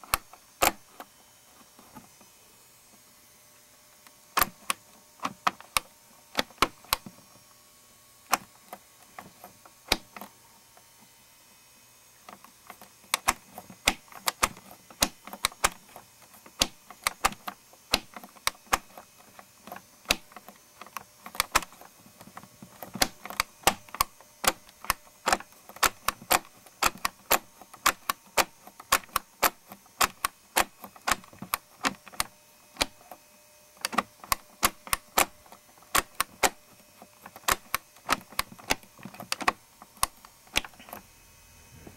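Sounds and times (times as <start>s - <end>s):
plastic gears clicking: 0.0s - 1.1s, 4.4s - 7.2s, 8.3s - 10.3s, 12.2s - 33.2s, 33.8s - 41.0s.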